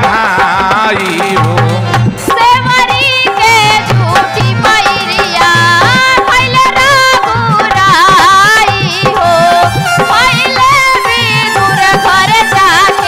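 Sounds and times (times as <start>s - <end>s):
steady drum accompaniment: 0.0s - 13.0s
woman singing into microphone: 2.1s - 13.0s.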